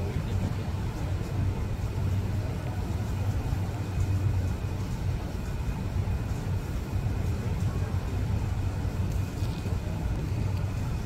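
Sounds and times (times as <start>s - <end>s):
ventilation hum: 0.0s - 11.0s.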